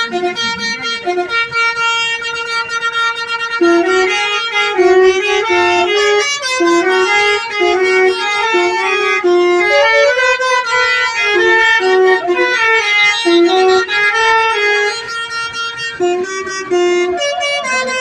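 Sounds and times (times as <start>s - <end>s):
melodic vehicle horns playing tune: 0.0s - 18.0s.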